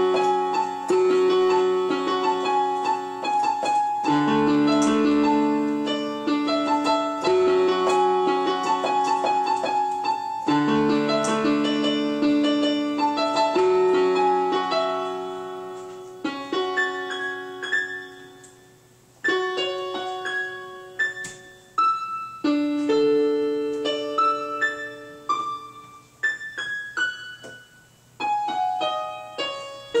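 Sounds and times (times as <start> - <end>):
electronic keyboard piano playing: 0.0 - 30.0.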